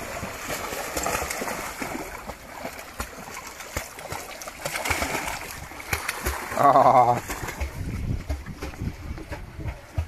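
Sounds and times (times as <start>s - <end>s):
dogs splashing in water: 0.0s - 10.0s.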